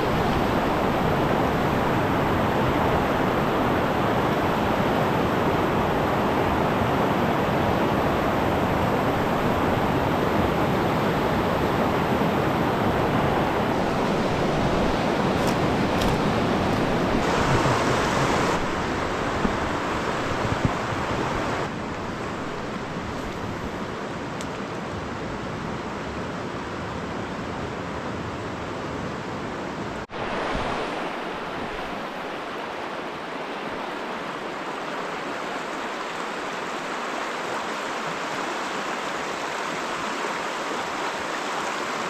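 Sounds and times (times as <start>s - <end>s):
river rapids rushing: 0.0s - 24.3s, 30.1s - 42.0s.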